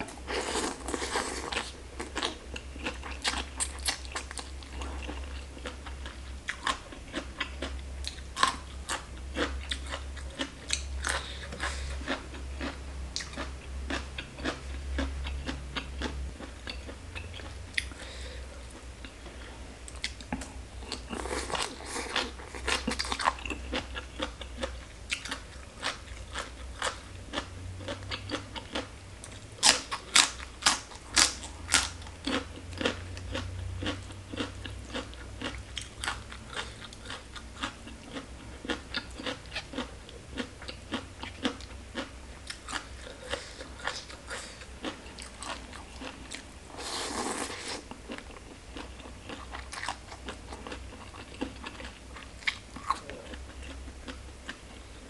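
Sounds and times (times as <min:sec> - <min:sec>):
crunching and chewing salad: 0:00.0 - 0:55.0.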